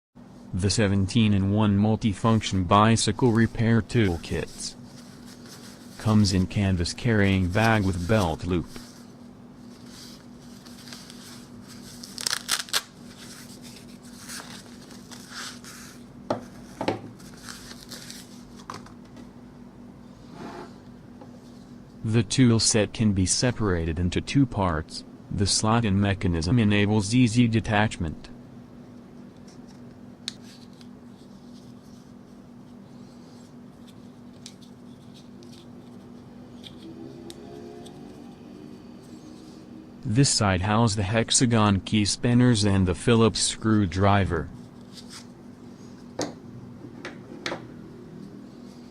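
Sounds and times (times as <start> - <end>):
faint steady hum: 0.2 - 48.9.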